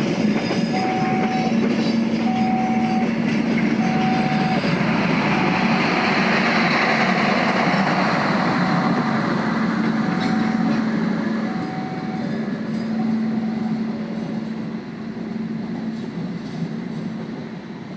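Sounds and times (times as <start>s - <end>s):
train rumbling on rails: 0.0s - 17.9s.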